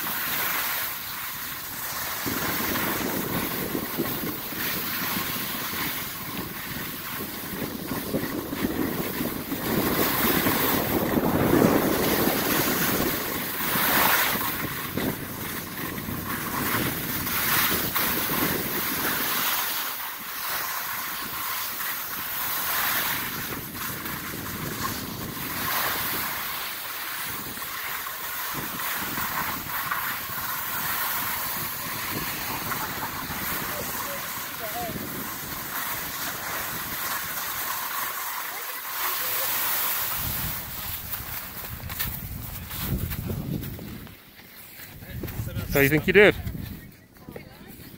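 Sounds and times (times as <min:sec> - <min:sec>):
skis scraping over snow: 0:00.0 - 0:47.9
wind on microphone: 0:01.4 - 0:19.8, 0:20.8 - 0:37.8, 0:39.3 - 0:47.9.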